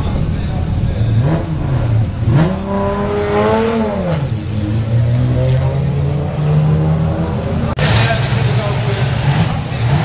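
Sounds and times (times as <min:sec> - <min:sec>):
race car engine: 0:00.0 - 0:10.0.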